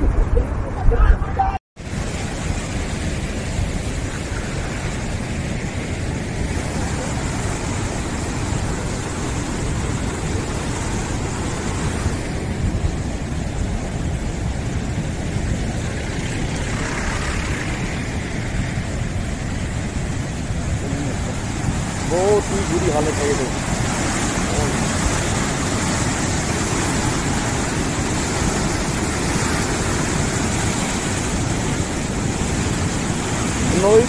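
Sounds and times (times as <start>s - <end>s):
heavy rain: 0.0s - 34.0s
running water: 1.8s - 34.0s.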